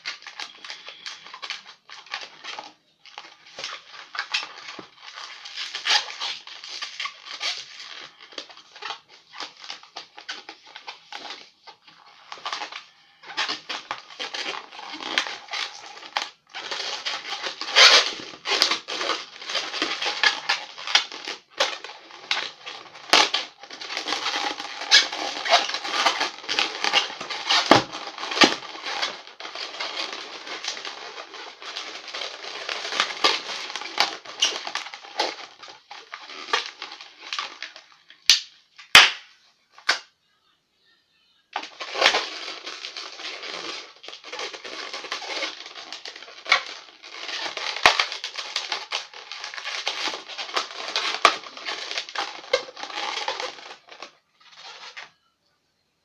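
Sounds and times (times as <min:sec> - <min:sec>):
balloons rubbing and squeaking: 0:00.0 - 0:38.3, 0:41.6 - 0:55.2.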